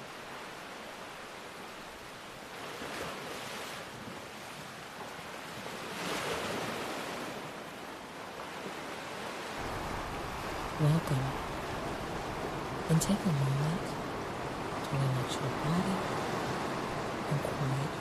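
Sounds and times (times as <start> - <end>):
ocean waves washing on shore: 0.0 - 18.0.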